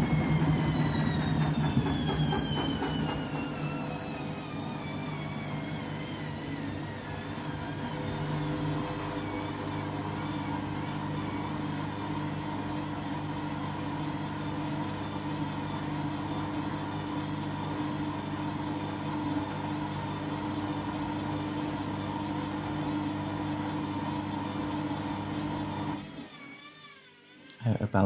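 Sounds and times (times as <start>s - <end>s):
washing machine spinning: 0.0s - 27.5s.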